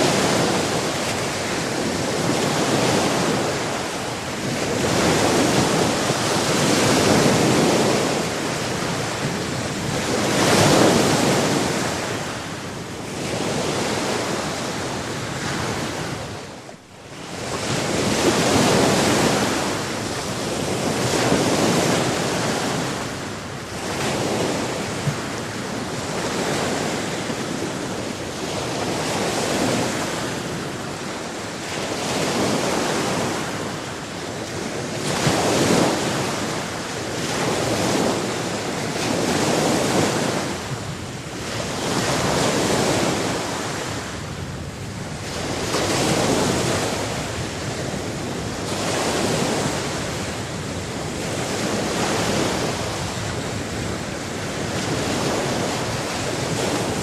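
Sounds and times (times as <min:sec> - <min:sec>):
waves breaking and washing in: 0:00.0 - 0:57.0.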